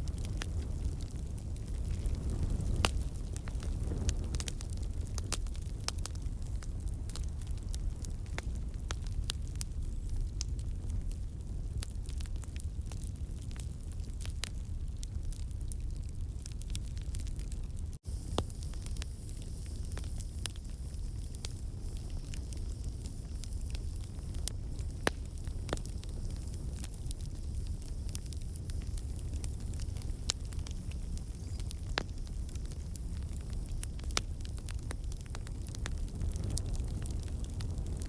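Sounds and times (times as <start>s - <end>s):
burning logs popping and crackling: 0.0s - 38.0s
low rumble of flame: 0.0s - 38.0s.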